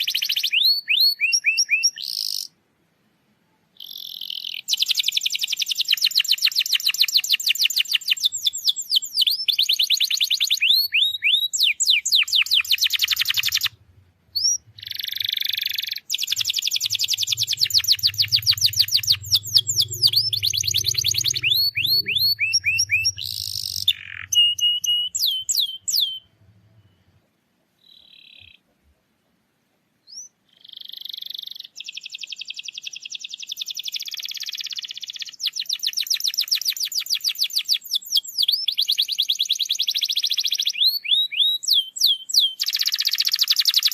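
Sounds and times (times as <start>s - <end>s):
canary singing rapid trills: 0.0s - 2.6s, 3.8s - 27.2s, 30.1s - 43.9s.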